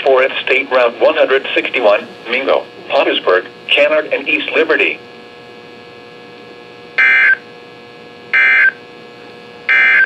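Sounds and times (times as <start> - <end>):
faint steady hum: 0.0 - 10.0
buzzy data tone bursts: 0.7 - 8.9, 9.7 - 10.0.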